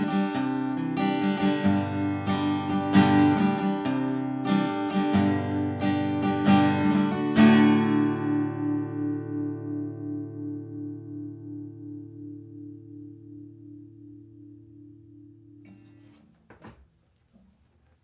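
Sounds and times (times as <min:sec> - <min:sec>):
acoustic guitar picking and strumming: 0:00.0 - 0:16.6.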